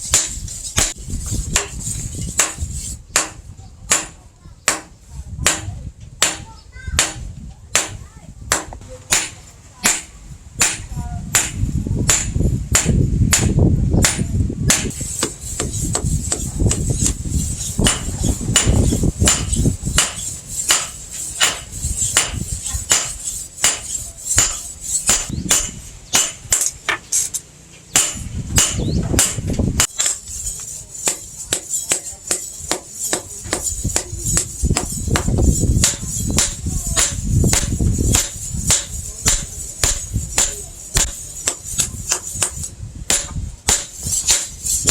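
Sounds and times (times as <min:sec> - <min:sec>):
hammer blows on an anvil: 0:00.1 - 0:17.2, 0:17.8 - 0:27.4, 0:28.0 - 0:30.2, 0:31.0 - 0:44.9.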